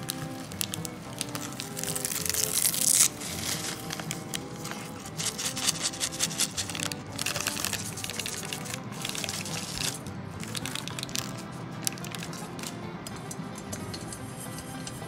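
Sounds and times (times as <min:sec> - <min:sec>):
paper packet crinkling: 0:00.0 - 0:13.2
oat flakes pouring into metal pot: 0:00.0 - 0:14.2.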